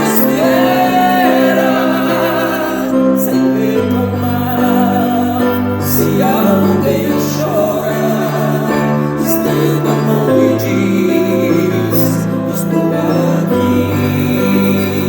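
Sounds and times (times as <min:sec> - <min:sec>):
slow song with singing: 0:00.0 - 0:15.0.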